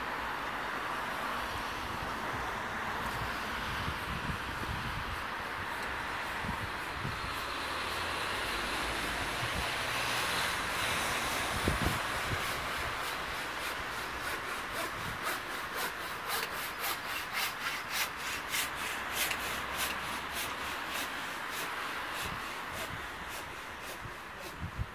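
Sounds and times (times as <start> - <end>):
street traffic noise: 0.0 - 24.9.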